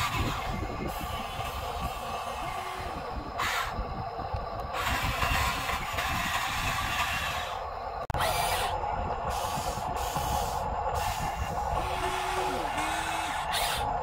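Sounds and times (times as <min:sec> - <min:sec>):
toy excavators whirring: 0:00.0 - 0:14.0.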